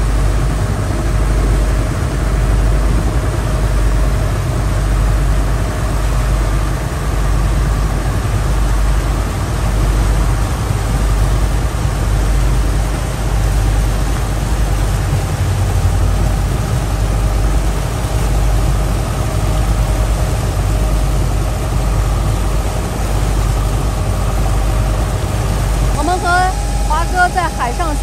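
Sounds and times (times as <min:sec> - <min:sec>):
boat engine droning: 0:00.0 - 0:28.0
faint steady whine: 0:00.0 - 0:28.0
wind and water noise: 0:00.0 - 0:28.0.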